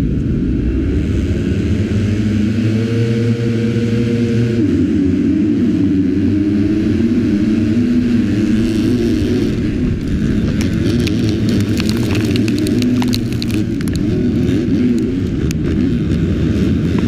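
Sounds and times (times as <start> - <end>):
motorbike engine at full throttle: 0.0 - 11.6, 13.9 - 17.0
engines of other motorbikes: 0.0 - 17.0.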